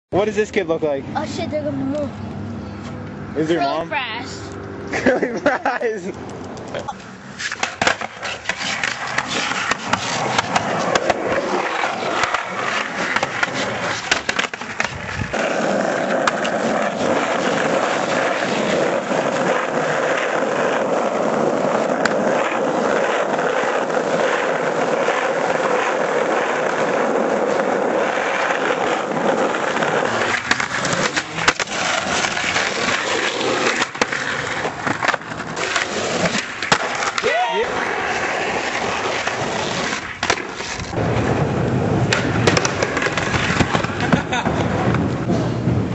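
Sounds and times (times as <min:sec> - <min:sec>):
skateboard wheels rolling on asphalt: 0:00.1 - 0:45.9
skateboard clacks: 0:06.0 - 0:45.9.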